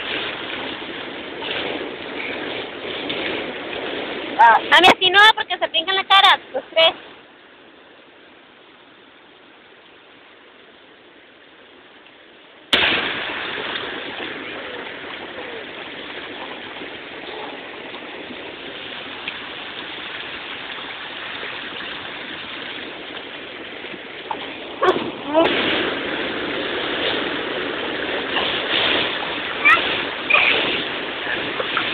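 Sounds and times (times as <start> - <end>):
surf washing over shallows: 0.0 - 31.9.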